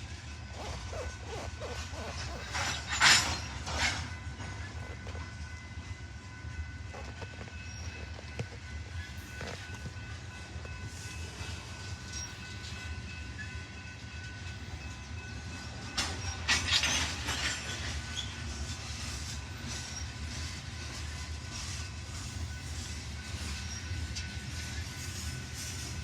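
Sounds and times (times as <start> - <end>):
freight train rumbling past: 0.0 - 26.0
train cars clanking and rattling: 0.0 - 26.0.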